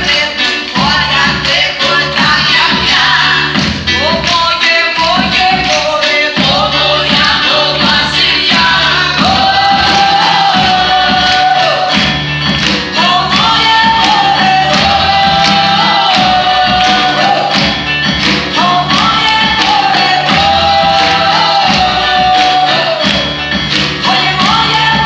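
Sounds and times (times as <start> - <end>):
women singing: 0.0 - 12.2, 12.8 - 17.8, 18.5 - 23.4, 24.0 - 25.0
live band playing: 0.0 - 25.0.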